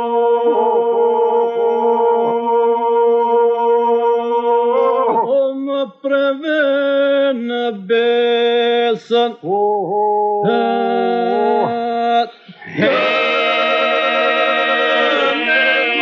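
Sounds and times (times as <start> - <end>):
solo voices singing ornamented phrases: 0.0 - 16.0.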